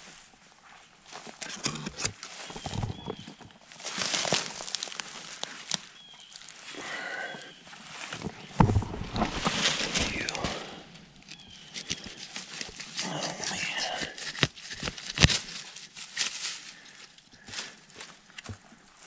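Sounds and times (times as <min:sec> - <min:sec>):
pine straw and twigs rustling: 0:00.0 - 0:19.0.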